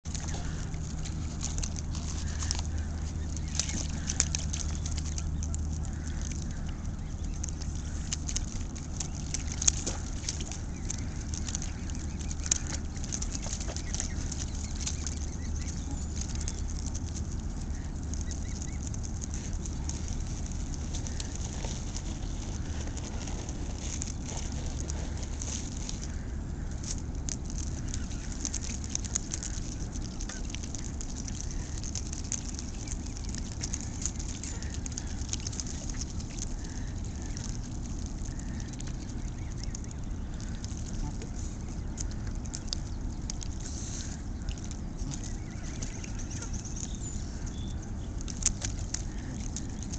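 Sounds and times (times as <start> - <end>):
geese splashing in water: 0.0 - 49.9
low rumble: 0.0 - 49.9.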